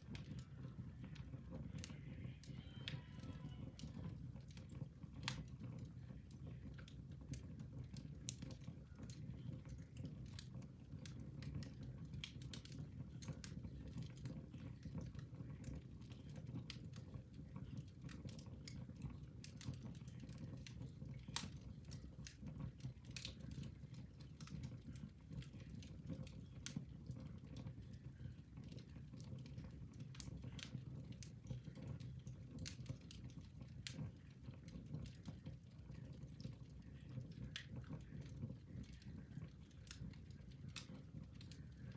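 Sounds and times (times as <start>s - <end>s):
fire crackling in fireplace: 0.0s - 41.9s.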